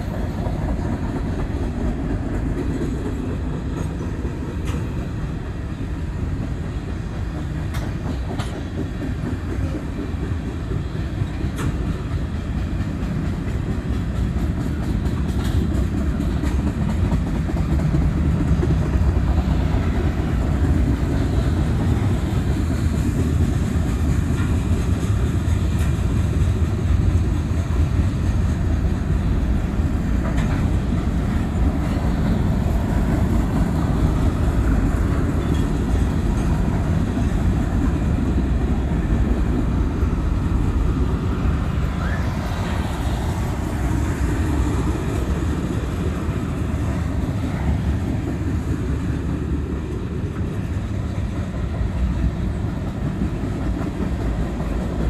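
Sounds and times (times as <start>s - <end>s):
freight train wheels rumbling: 0.0s - 55.0s
train clatter: 0.0s - 55.0s.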